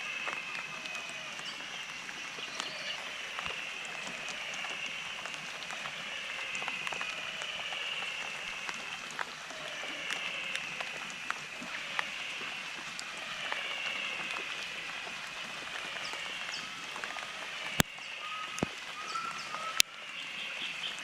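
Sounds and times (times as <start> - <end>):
high-pitched wildlife chorus: 0.0 - 21.0
rainwater dripping: 0.0 - 21.0.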